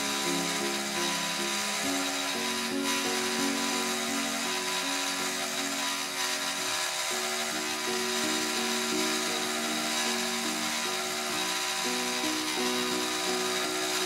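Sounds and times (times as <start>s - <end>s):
milling spindle whine and hiss: 0.0s - 14.0s
solo piano music: 0.0s - 14.0s.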